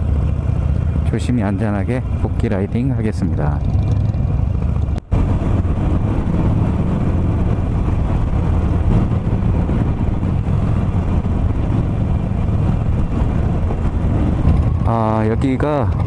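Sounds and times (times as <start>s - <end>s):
motorcycle engine rumbling: 0.0s - 16.0s
wind rush: 0.0s - 16.0s.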